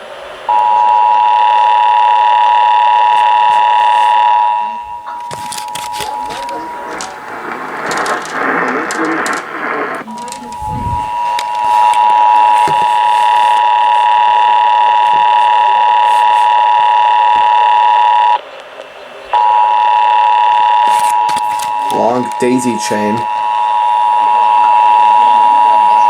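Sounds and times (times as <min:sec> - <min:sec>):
two-tone alarm over radio: 0:00.5 - 0:18.4, 0:19.4 - 0:26.0
noisy radio sound: 0:00.6 - 0:26.0.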